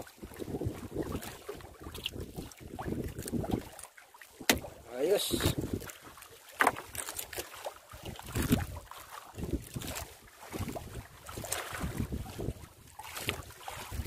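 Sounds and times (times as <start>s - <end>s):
wind buffeting microphone: 0.0s - 3.8s, 4.5s - 6.0s, 8.0s - 14.0s
waves splashing against boat: 0.0s - 14.0s.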